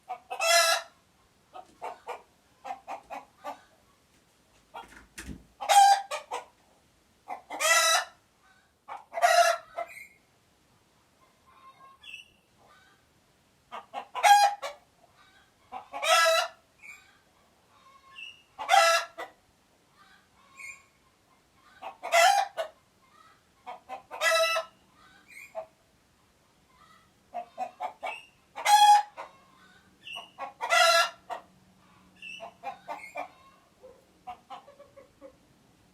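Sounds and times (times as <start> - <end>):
chicken clucking and squawking: 0.0 - 10.2, 11.1 - 35.6.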